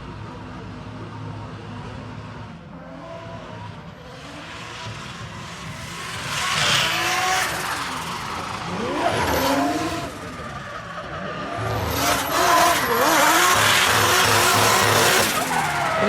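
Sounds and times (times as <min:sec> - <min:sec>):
car engine revving: 0:02.6 - 0:16.0
tyres skidding and squealing: 0:02.7 - 0:16.0.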